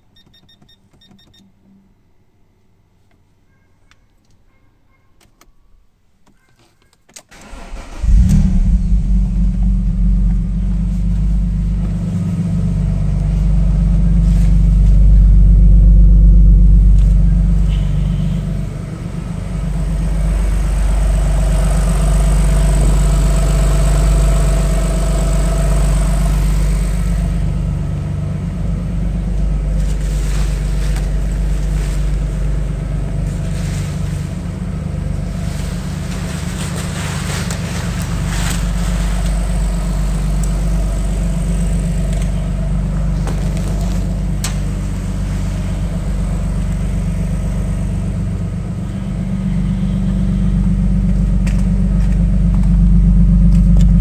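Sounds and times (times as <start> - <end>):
car engine starting and idling: 7.2 - 54.0.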